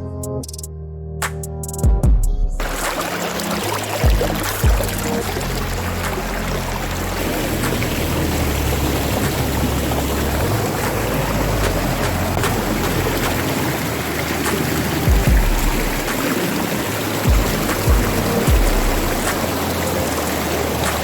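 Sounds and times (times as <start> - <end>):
waterfall rushing: 2.6 - 21.0.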